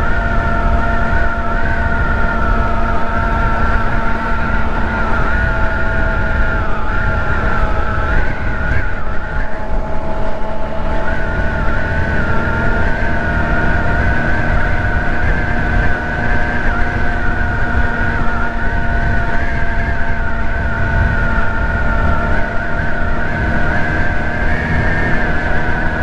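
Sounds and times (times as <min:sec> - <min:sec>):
scooter engine running: 0:00.0 - 0:26.0
steady whine: 0:00.0 - 0:26.0
wind rumble on microphone: 0:00.0 - 0:26.0.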